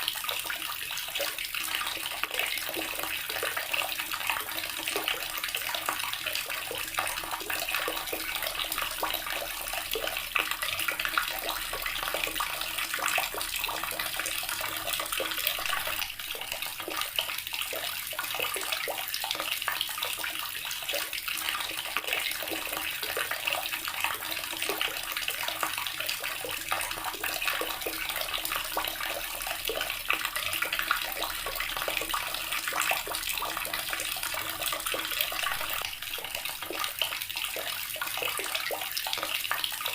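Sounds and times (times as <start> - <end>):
tap water splashing into basin: 0.0 - 39.9.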